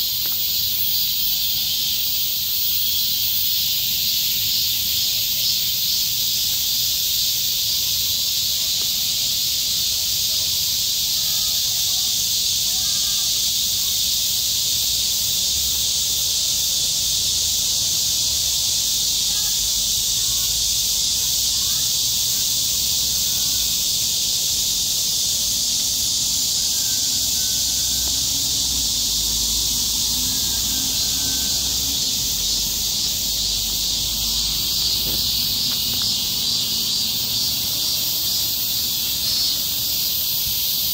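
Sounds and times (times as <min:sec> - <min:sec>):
insects shrilling: 0:00.0 - 0:40.9.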